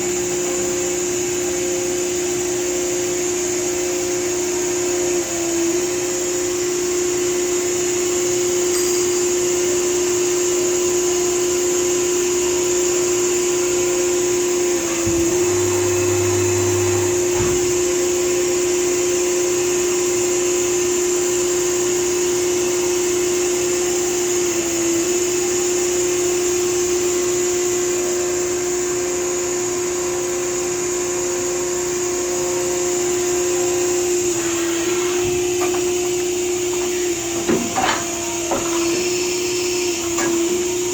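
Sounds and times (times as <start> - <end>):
cnc machine high-pitched whine: 0.0 - 40.9.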